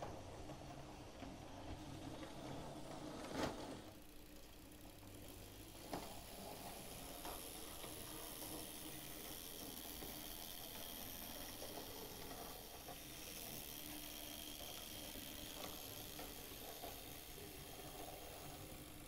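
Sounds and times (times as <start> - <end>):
model train motor running: 1.4 - 19.0.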